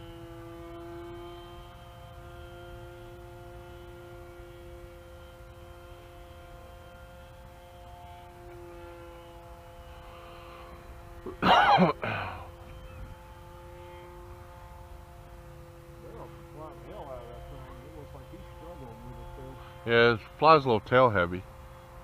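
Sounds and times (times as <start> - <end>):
model aircraft motor droning: 0.0 - 22.0.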